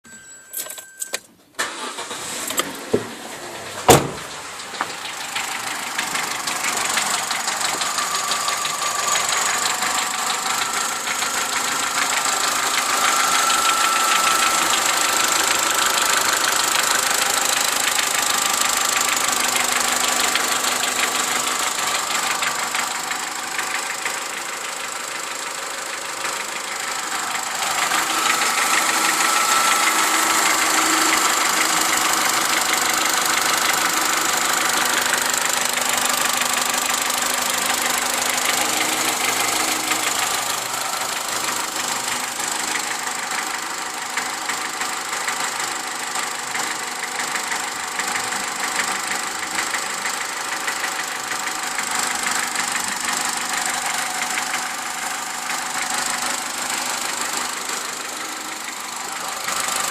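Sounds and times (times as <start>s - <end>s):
car engine starting: 1.4s - 59.9s
engine idling with rapid clattering: 1.6s - 59.9s.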